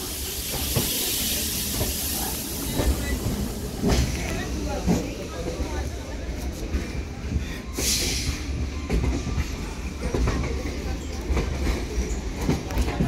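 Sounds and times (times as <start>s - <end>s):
train coach rumbling: 0.0s - 13.0s.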